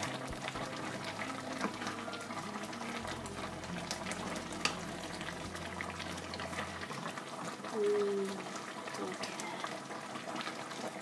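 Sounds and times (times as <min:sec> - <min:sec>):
stew bubbling in a wok: 0:00.0 - 0:11.0.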